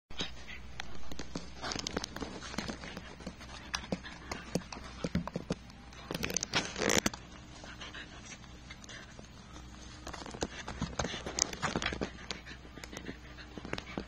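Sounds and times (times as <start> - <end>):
paws scuffling and pattering: 0.2 - 14.0.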